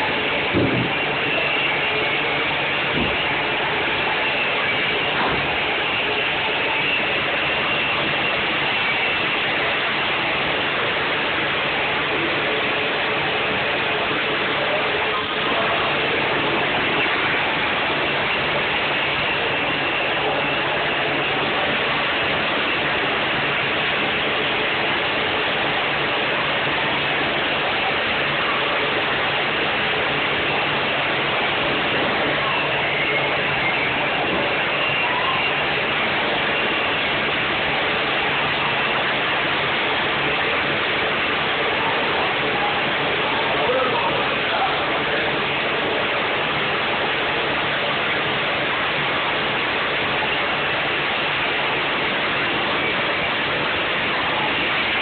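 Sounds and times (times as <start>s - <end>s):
machinery humming: 0.0s - 55.0s.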